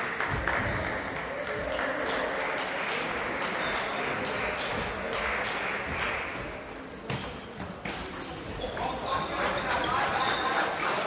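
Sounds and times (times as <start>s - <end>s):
background chatter: 0.0s - 11.0s.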